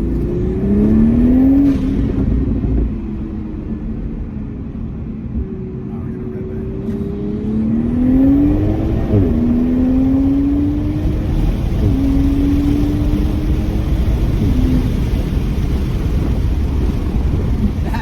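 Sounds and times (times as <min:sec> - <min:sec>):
car engine accelerating: 0:00.0 - 0:18.0
road and wind noise: 0:00.0 - 0:18.0.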